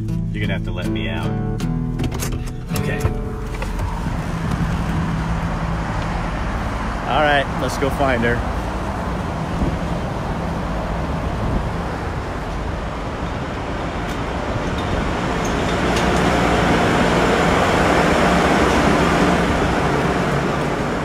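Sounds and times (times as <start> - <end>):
traffic on wet roads: 2.9 - 21.0.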